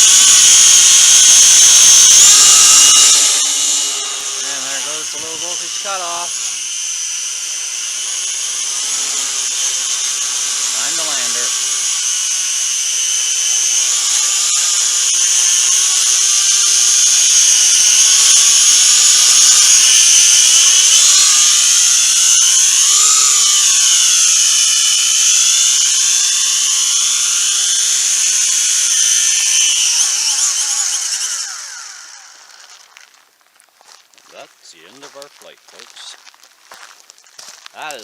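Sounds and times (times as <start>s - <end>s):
toy quadcopter motors whining: 0.0s - 33.4s, 34.3s - 38.0s.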